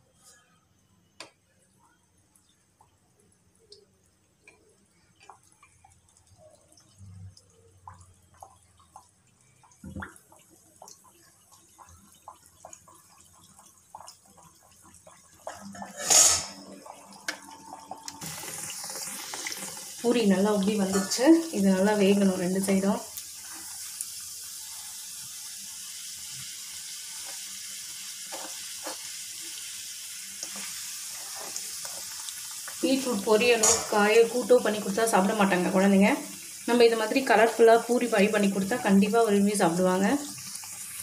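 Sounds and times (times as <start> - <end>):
dough frying in hot oil: 0.0 - 41.0.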